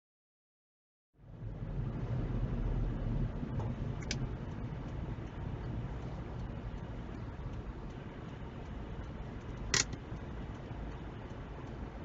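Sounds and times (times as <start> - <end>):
car engine and road rumble: 1.2 - 12.0.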